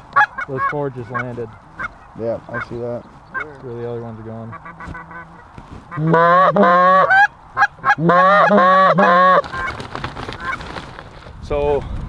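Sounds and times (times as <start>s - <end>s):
goose call clucks and honks: 0.0s - 9.7s.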